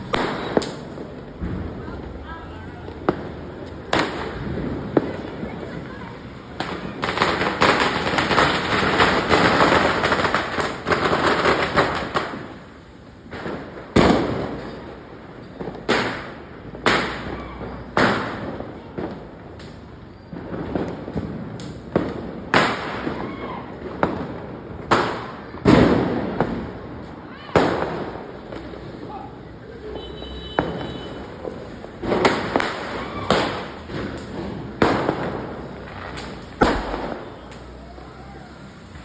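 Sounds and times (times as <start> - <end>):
firecracker bangs with echo: 0.0 - 29.3, 30.1 - 39.0
firecrackers crackling: 0.0 - 39.0.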